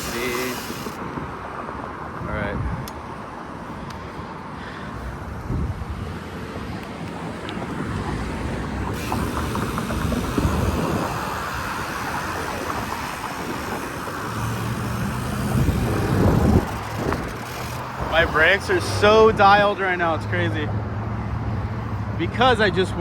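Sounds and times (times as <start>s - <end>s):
road noise and cars: 0.0s - 23.0s.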